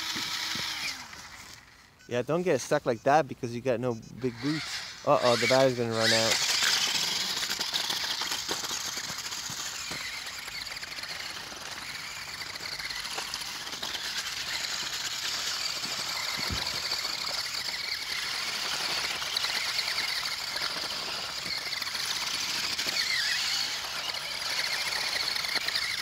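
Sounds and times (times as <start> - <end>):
toy truck electric motors whining: 0.0 - 2.1, 4.0 - 26.0.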